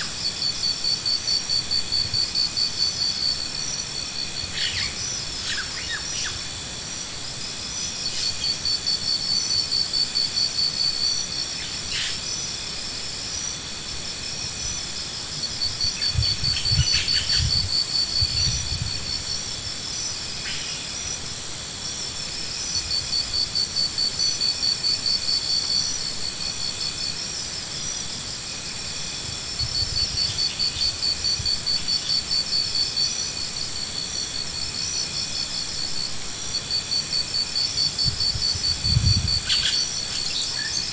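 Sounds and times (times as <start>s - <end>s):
insects buzzing and pulsing: 0.0s - 40.9s.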